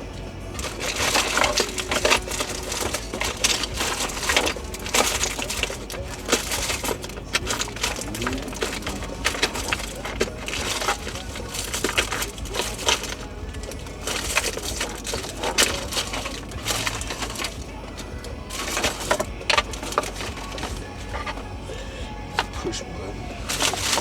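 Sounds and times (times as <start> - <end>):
plastic trim clicks and rattles: 0.0 - 22.7.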